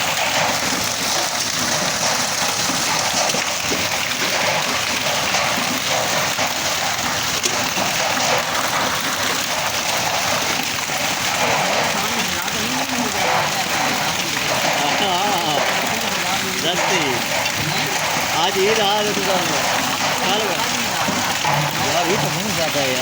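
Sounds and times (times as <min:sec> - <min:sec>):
heavy hail pattering: 0:00.0 - 0:23.0.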